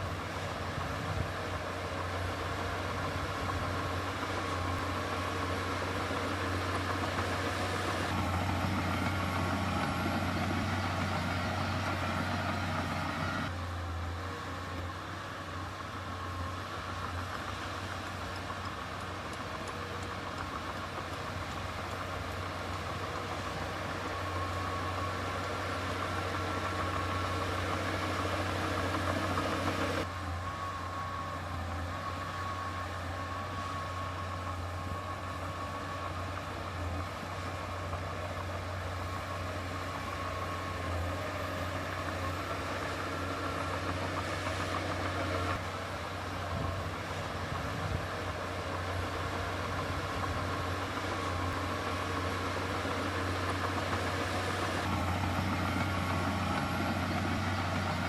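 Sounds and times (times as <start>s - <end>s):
diesel machinery engine droning: 0.0s - 58.0s.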